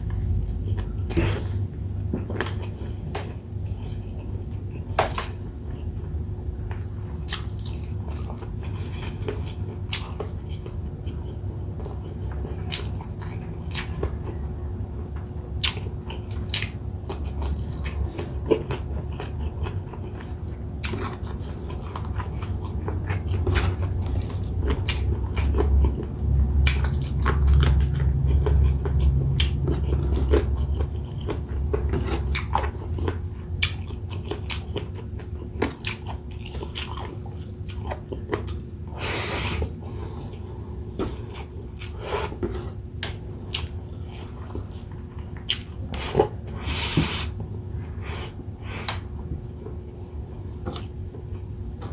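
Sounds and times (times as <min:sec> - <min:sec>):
chewing and biting food: 0:00.0 - 0:46.7, 0:48.0 - 0:51.9.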